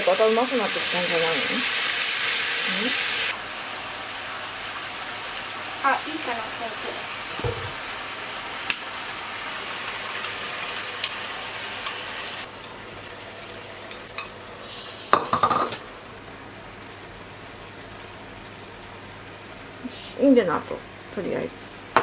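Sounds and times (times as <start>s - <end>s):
onions and chicken sizzling: 0.0s - 22.0s.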